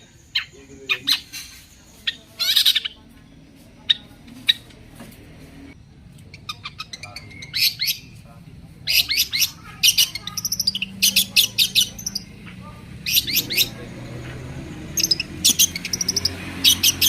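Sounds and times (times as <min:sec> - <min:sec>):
shrike calling: 0:00.0 - 0:04.7, 0:05.9 - 0:17.0.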